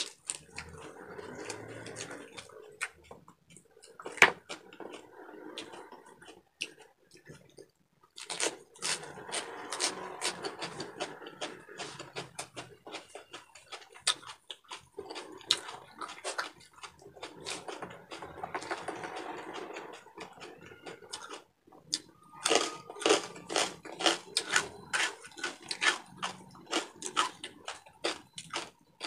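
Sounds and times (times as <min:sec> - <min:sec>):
crunching and chewing crispy pork: 0:00.0 - 0:29.0.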